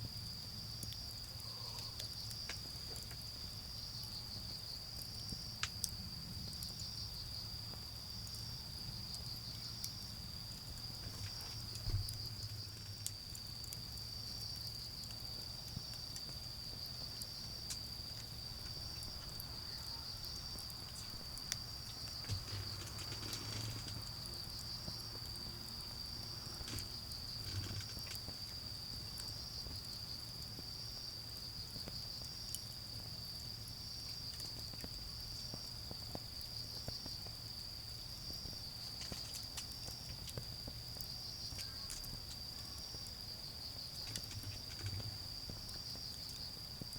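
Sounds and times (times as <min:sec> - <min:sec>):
charcoal fire crackling: 0:00.0 - 0:46.9
insect chirp: 0:00.0 - 0:46.9.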